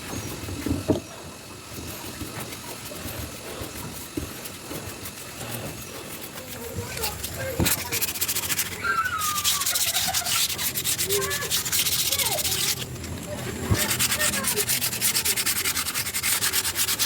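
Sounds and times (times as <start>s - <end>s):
hand sanding wood: 0.0s - 17.0s.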